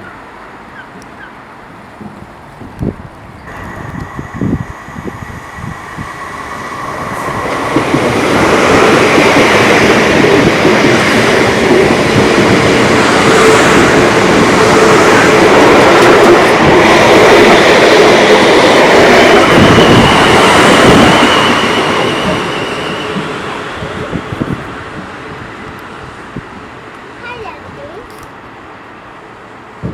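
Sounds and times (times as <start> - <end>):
train wheels rumbling: 0.0 - 29.9
rail clatter: 0.6 - 28.6.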